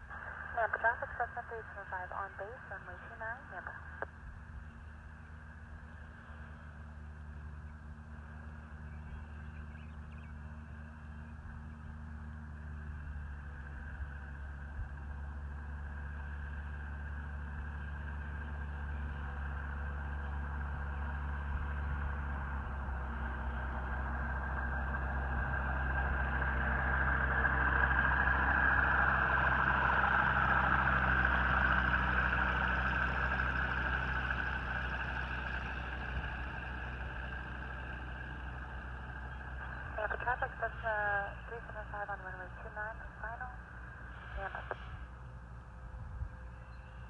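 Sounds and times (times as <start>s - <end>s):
light airplane engine droning: 0.0s - 47.0s.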